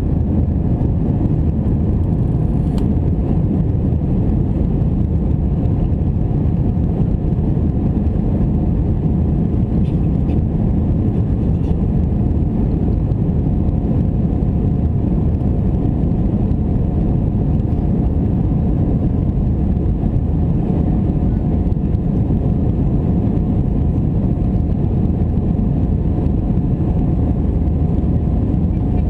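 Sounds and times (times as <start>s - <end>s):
jet engine drone in cabin: 0.0s - 29.0s.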